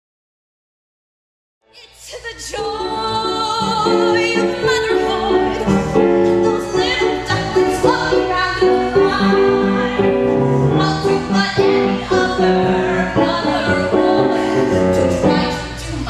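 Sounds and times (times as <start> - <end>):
musical theatre singing: 1.8 - 16.0
piano accompaniment: 2.6 - 16.0.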